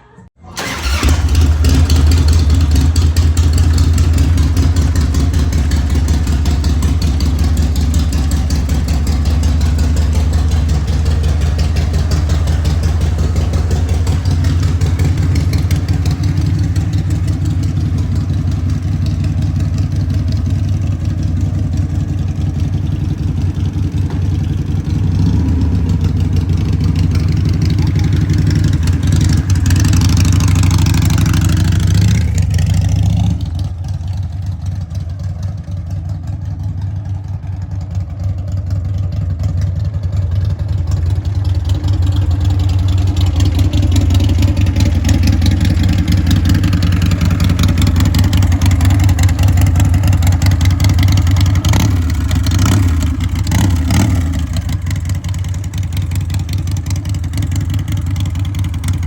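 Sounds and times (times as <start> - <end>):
motorcycle engine running: 0.5 - 59.0.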